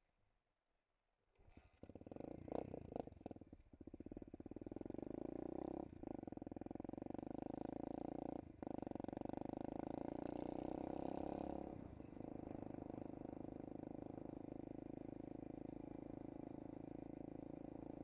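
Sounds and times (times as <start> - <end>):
motorbike engine running: 1.9 - 18.0.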